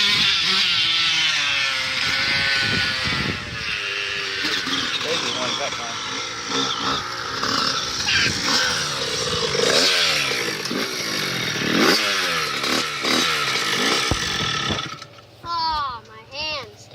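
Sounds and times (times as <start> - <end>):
dirt bike engine revving: 0.0 - 15.3.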